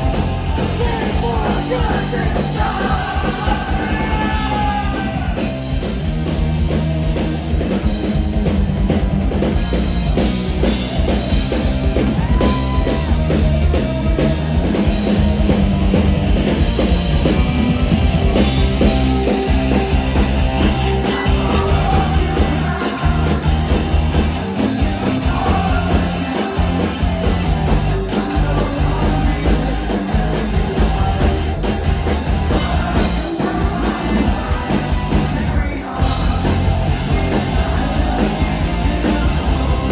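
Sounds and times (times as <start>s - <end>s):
bass guitar: 0.0s - 39.9s
driving drum kit: 0.0s - 39.9s
electric guitars: 0.0s - 39.9s.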